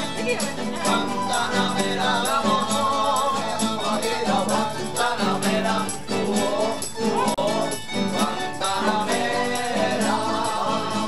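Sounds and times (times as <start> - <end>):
strummed acoustic guitars: 0.0 - 11.0
voices singing: 0.0 - 11.0.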